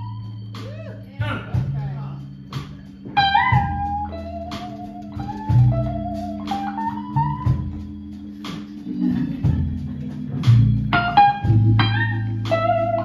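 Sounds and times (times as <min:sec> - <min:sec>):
bass line: 0:00.0 - 0:13.0
electric guitar lead: 0:00.0 - 0:13.0.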